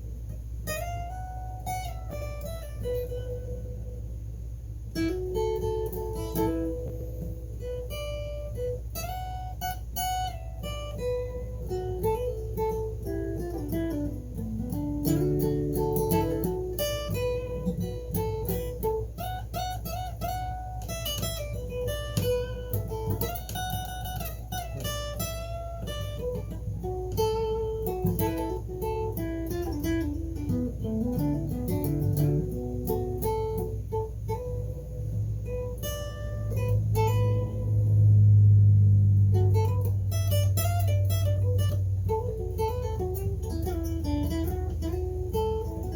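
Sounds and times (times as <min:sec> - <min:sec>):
low accompaniment: 0:01.2 - 0:45.9
blues guitar solo: 0:04.9 - 0:45.9.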